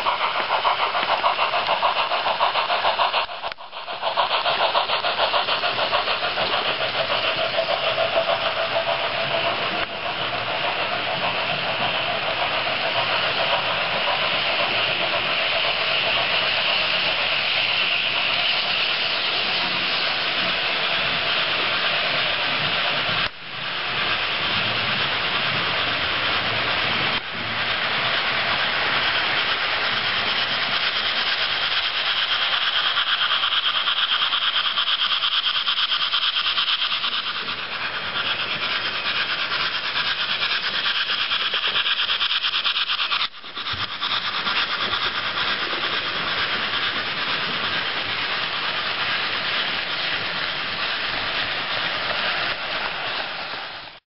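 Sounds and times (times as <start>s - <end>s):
model train wheels rolling: 0.0s - 54.0s
steam chuffing and hiss: 0.0s - 54.0s.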